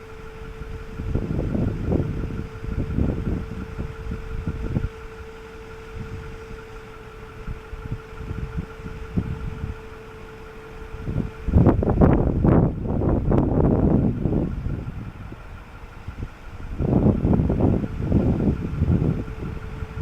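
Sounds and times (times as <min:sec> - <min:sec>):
low rumble: 0:00.0 - 0:20.0
machine whining: 0:00.0 - 0:20.0
wind noise on microphone: 0:00.0 - 0:20.0.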